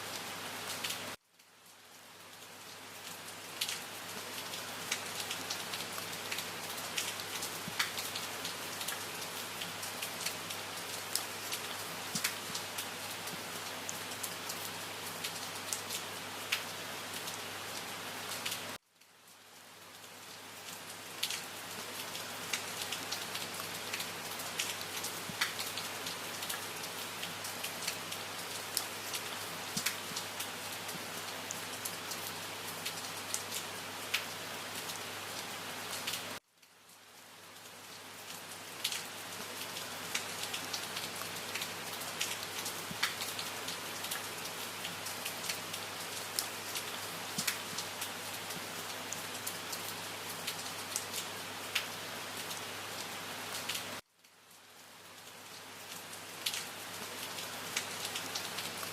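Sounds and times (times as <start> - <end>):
steady rain with drop ticks: 0.0 - 58.9.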